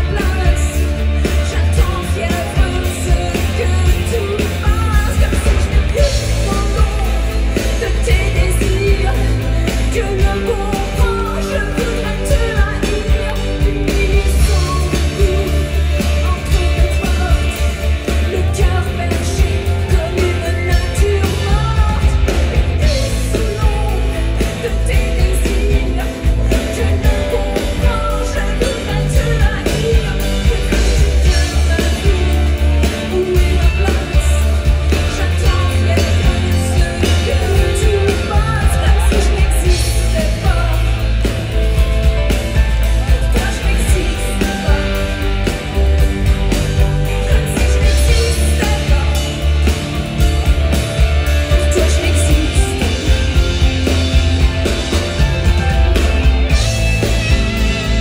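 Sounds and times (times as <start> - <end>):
live pop-rock band: 0.0 - 58.0
woman singing: 0.0 - 58.0.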